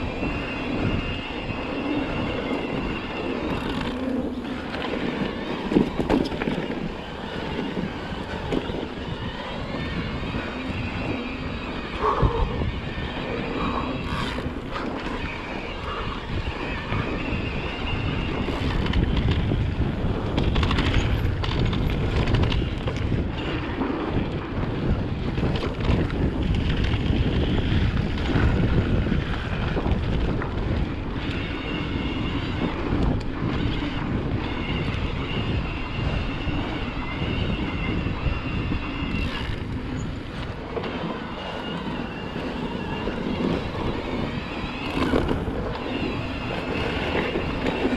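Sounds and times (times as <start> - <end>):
wind rushing over microphone: 0.0 - 47.9
bike tyre noise and knocks: 2.1 - 10.6, 13.6 - 47.9.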